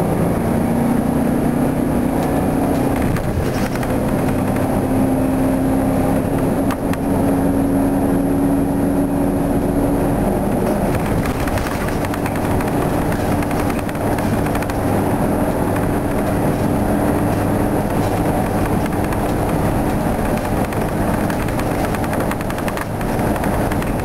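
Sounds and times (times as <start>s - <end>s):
diesel bus engine running: 0.0s - 24.0s
road and body noise: 1.9s - 7.4s, 9.0s - 24.0s.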